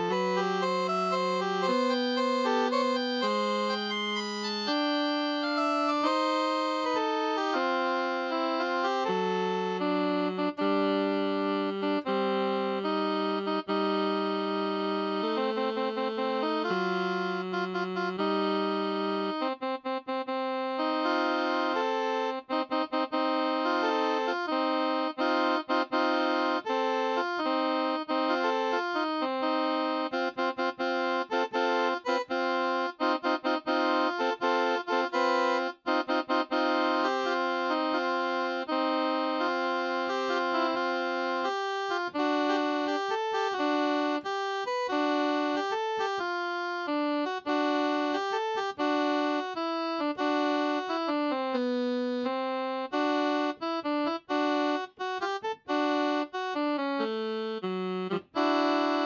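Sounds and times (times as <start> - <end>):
electronic keyboard saxophone voice: 0.0 - 59.0.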